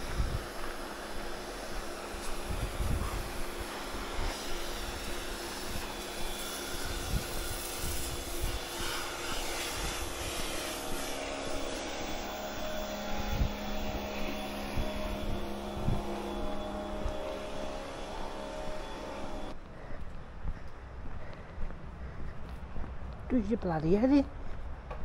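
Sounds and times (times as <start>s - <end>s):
steady motor drone: 0.0s - 22.2s.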